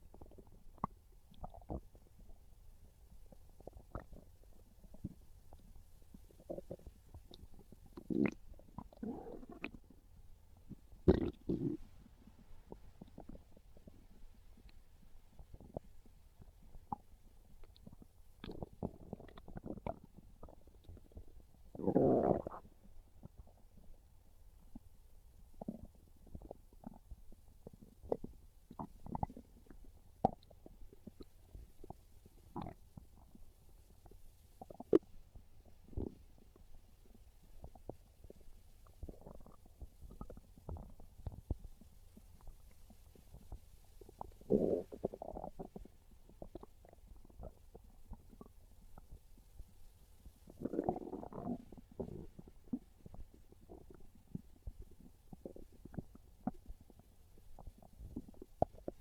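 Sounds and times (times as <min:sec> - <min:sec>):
stomach gurgling and rumbling: 0:00.0 - 0:59.0.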